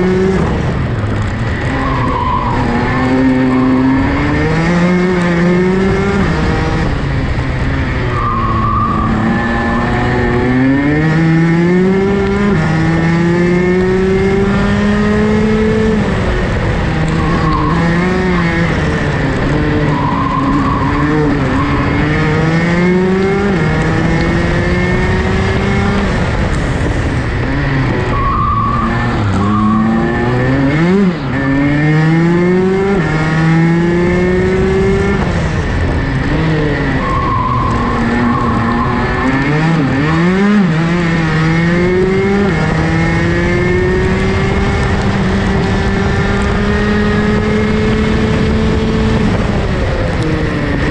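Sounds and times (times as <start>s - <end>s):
kart engine revving: 0.0s - 50.9s.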